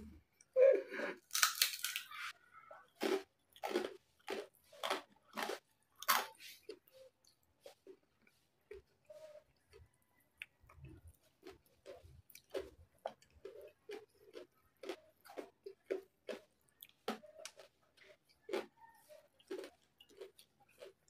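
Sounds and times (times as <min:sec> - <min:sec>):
mouth chewing crunchy food: 0:01.2 - 0:21.0.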